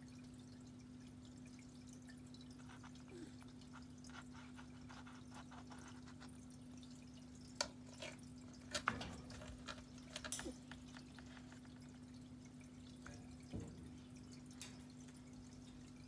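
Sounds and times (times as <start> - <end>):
quiet steady hum: 0.0 - 16.0.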